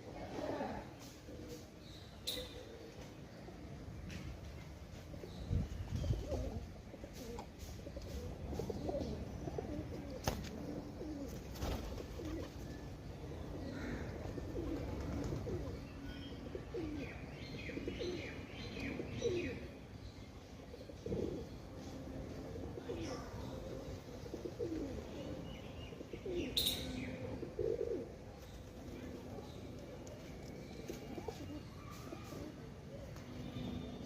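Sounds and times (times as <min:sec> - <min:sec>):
pigeons cooing: 0:05.1 - 0:19.8, 0:20.6 - 0:33.5.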